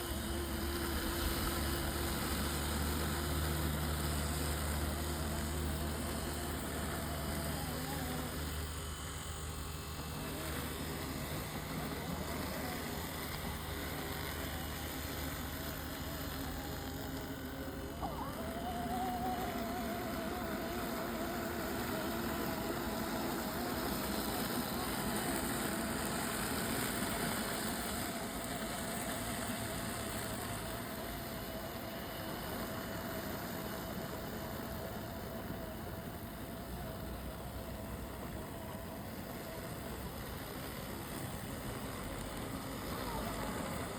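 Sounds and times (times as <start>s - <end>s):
motor whine: 0.0s - 43.9s
robotic lawn mower humming: 0.0s - 43.9s.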